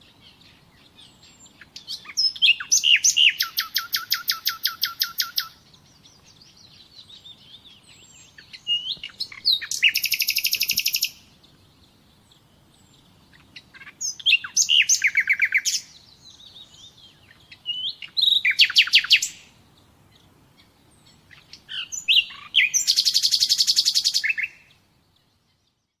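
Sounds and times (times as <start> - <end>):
faint bird chirping: 0.0 - 26.0
songbird singing trills: 0.0 - 26.0.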